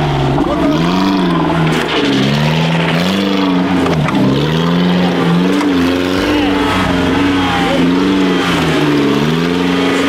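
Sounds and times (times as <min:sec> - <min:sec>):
off-road engine revving: 0:00.0 - 0:10.0.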